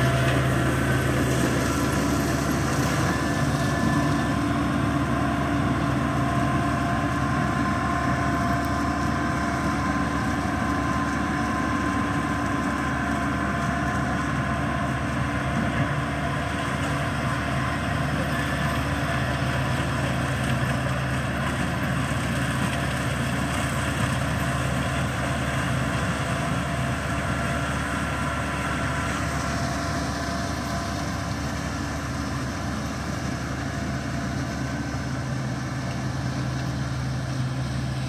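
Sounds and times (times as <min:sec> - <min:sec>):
tractor engine hum: 0:00.0 - 0:38.0.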